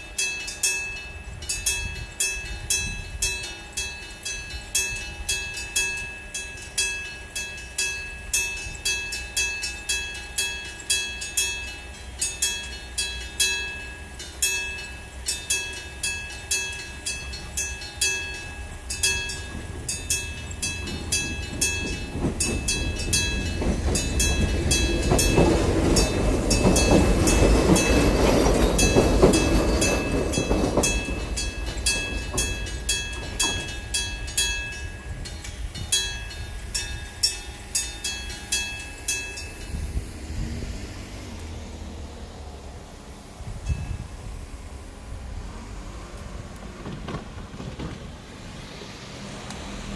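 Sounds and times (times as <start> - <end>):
train passing: 0.0 - 49.9.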